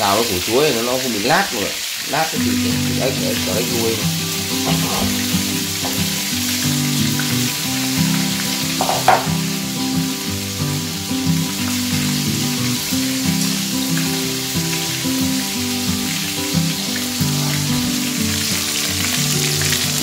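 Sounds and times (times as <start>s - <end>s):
meat sizzling in hot oil: 0.0s - 20.0s
background music: 2.3s - 20.0s.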